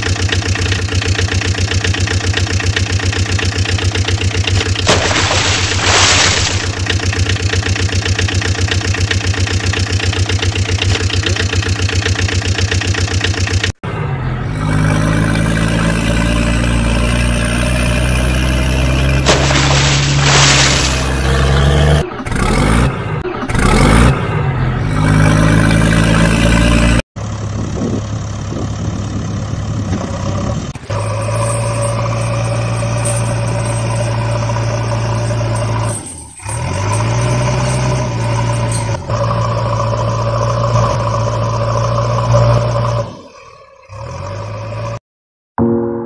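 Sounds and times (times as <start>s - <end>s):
truck engine revving: 0.3s - 45.0s.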